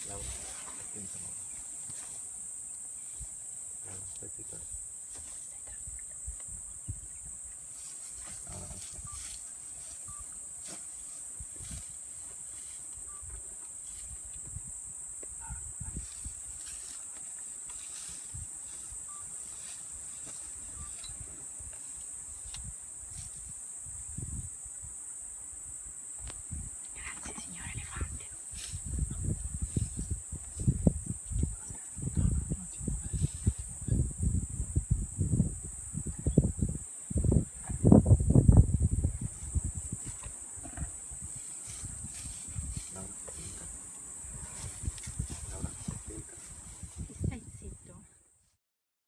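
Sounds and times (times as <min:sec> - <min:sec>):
rustles: 0:00.0 - 0:24.8, 0:26.1 - 0:34.6, 0:36.8 - 0:48.0
insects droning: 0:00.0 - 0:48.3.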